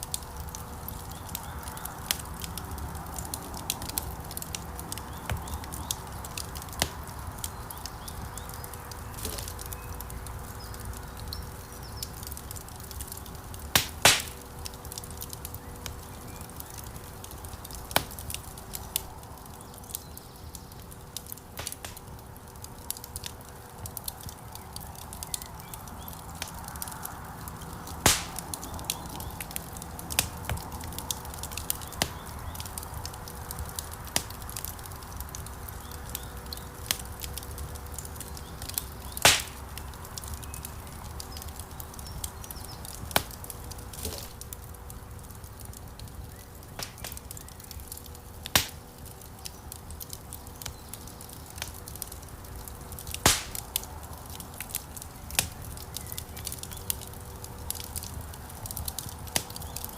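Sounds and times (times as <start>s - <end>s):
fire rushing: 0.0s - 59.9s
wood fire crackling and popping: 0.0s - 59.9s.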